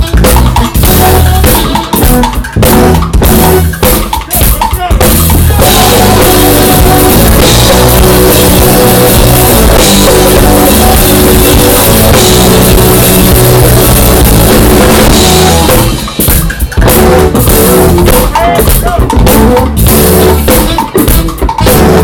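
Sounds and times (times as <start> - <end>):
bass drum thumps: 0.0 - 22.0
live rock band playing: 0.0 - 22.0.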